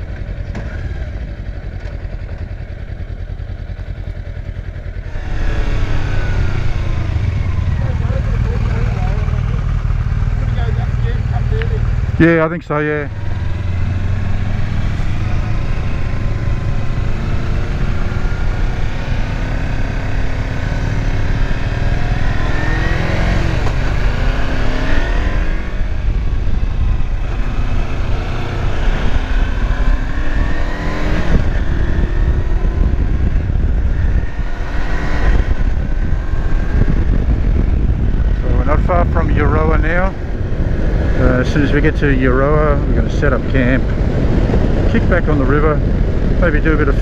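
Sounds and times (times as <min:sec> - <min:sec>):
motorcycle engine accelerating: 0:00.0 - 0:47.0
wind and road rumble: 0:00.0 - 0:47.0.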